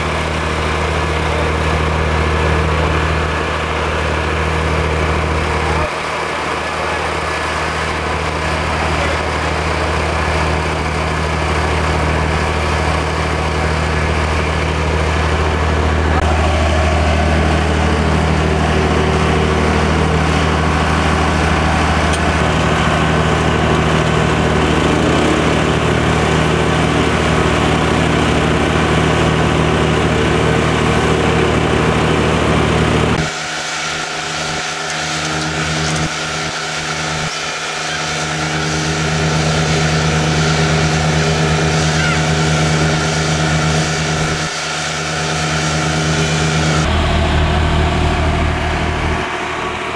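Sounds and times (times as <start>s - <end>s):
engine deep hum: 0.0s - 49.9s.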